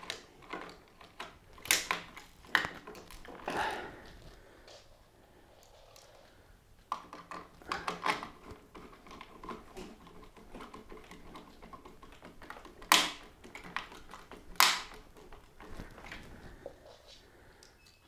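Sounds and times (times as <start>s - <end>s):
sharp plastic clicks: 0.0s - 4.8s, 6.8s - 16.6s
hands handling plastic parts: 0.0s - 4.9s, 5.6s - 18.0s.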